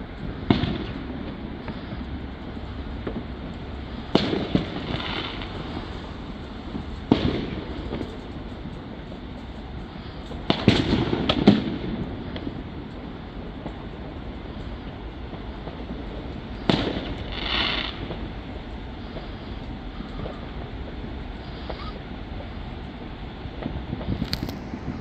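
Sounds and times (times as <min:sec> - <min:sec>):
fireworks exploding: 0:00.0 - 0:25.0
steady background noise: 0:00.0 - 0:25.0.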